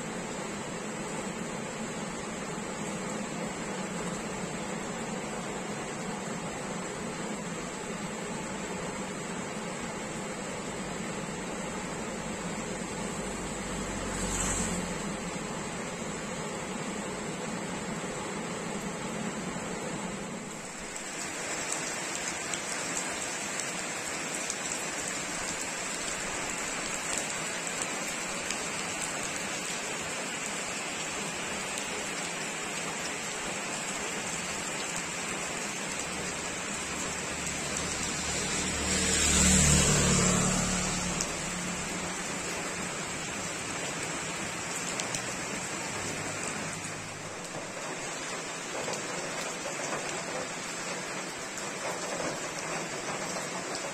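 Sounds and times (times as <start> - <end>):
heavy rain on pavement: 0.0 - 53.9
vehicle passing on wet road: 0.1 - 53.9.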